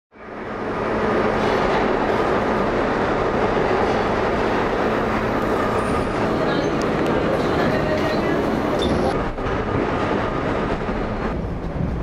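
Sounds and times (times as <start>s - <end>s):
subway car rumble and hum: 0.1s - 12.0s.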